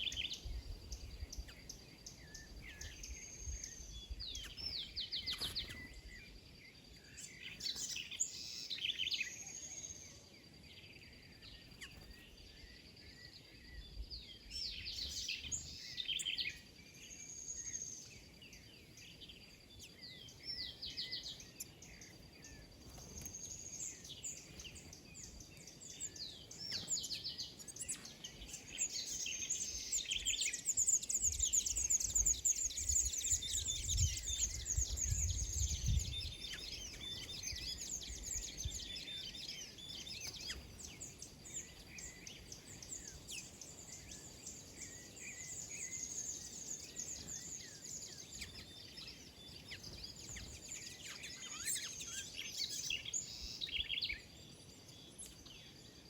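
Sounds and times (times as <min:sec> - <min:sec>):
many small birds chirping: 0:00.0 - 0:56.0.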